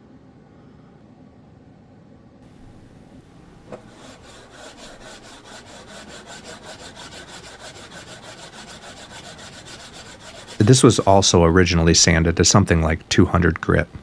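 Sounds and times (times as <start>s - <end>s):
abrasive rubbing on wood: 2.5s - 13.9s.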